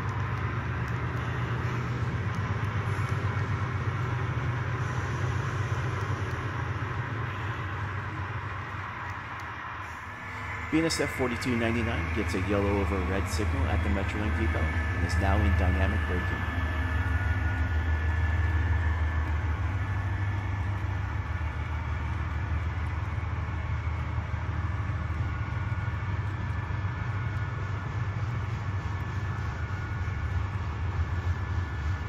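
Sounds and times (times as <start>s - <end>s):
model train diesel engine drone: 0.0s - 32.0s.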